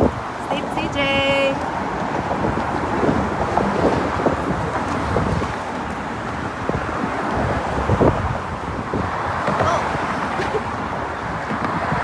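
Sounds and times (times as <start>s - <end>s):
traffic rumble: 0.0s - 12.0s
wind buffeting microphone: 0.0s - 12.0s.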